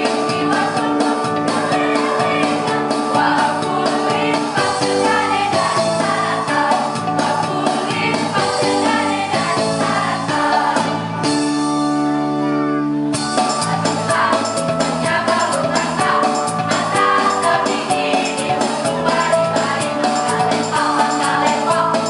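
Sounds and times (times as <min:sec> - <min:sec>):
choir singing: 0:00.0 - 0:11.2, 0:13.4 - 0:22.0
musical accompaniment: 0:00.0 - 0:22.0.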